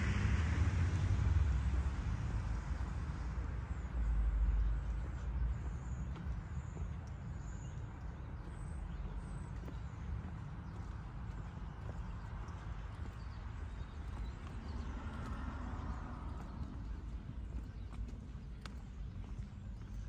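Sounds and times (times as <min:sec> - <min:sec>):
car passing: 0:00.0 - 0:07.1, 0:08.0 - 0:20.0
low town rumble: 0:00.0 - 0:20.0.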